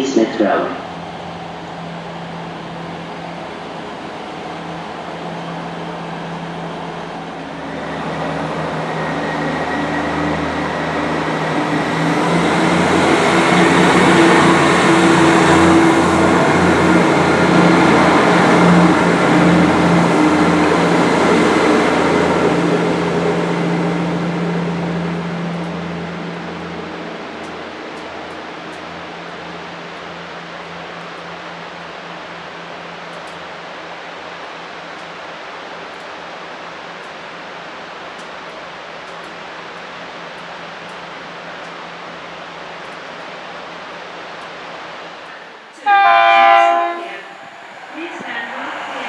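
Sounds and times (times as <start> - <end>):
diesel train passing: 0.0 - 49.0.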